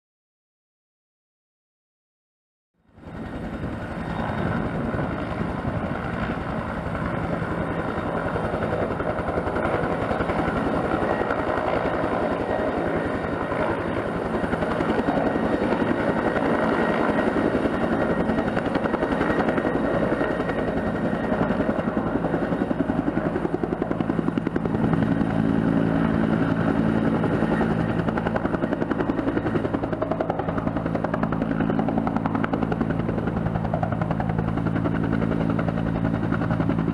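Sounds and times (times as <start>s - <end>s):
helicopter turbine whine: 2.8s - 36.9s.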